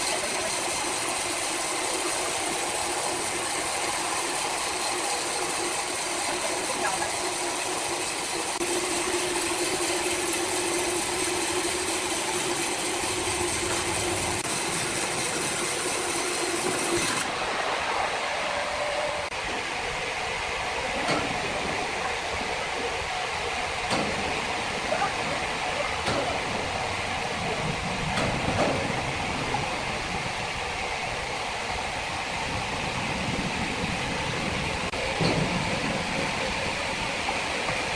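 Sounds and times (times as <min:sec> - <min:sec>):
sawmill machinery running: 0:00.0 - 0:37.9.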